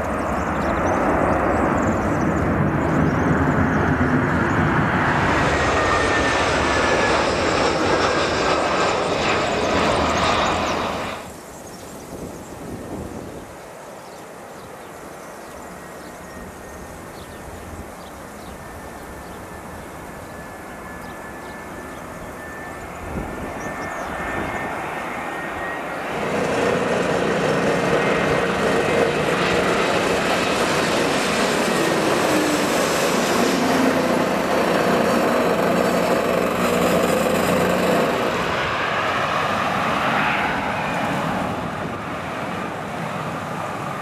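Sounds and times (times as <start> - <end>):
jet airliner engine noise: 0.0 - 44.0.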